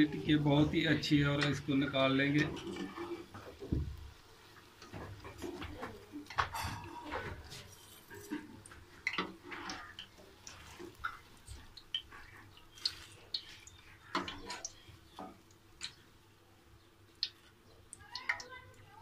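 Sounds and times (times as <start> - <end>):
frying oil crackle: 0.0 - 19.0.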